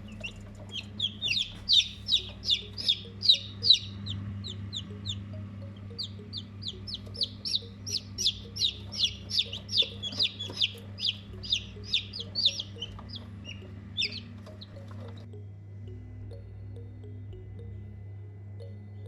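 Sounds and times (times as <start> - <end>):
chicks peeping: 0.0 - 15.3
steady low hum: 0.0 - 19.0.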